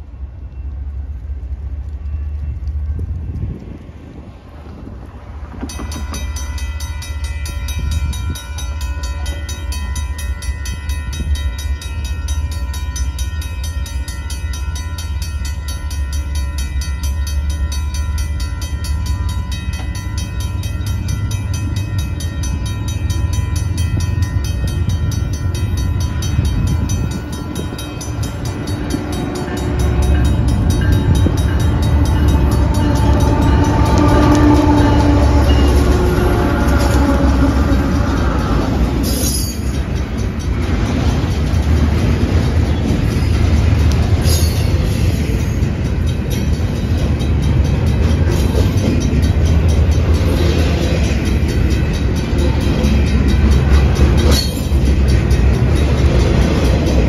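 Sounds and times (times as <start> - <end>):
crossing warning bells ringing: 0.0 - 57.0
locomotive engine and wheels: 0.0 - 57.0.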